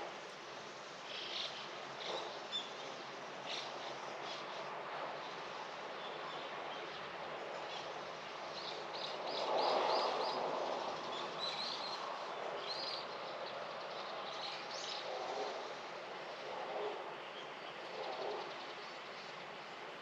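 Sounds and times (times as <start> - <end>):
outdoor background hum: 0.0 - 20.0.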